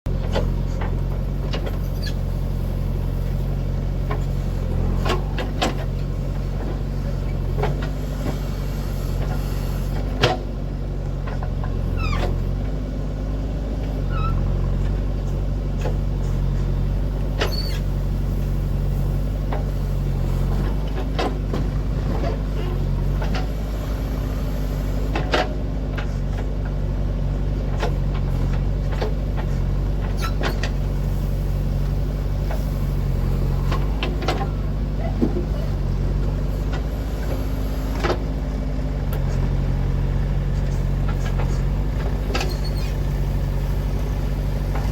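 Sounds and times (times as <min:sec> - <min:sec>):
heavy diesel engine running: 0:00.1 - 0:44.9.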